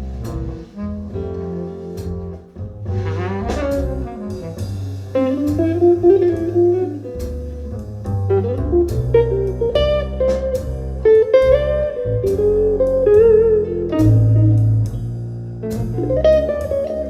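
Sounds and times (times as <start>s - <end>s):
bass line through loudspeakers: 0.0s - 17.0s.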